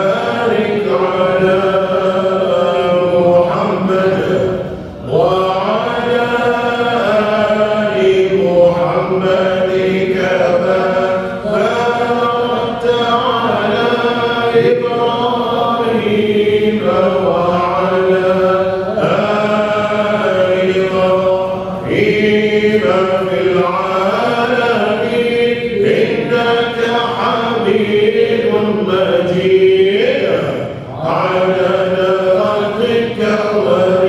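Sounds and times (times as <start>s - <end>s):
melodic vocal chant: 0.0s - 34.0s.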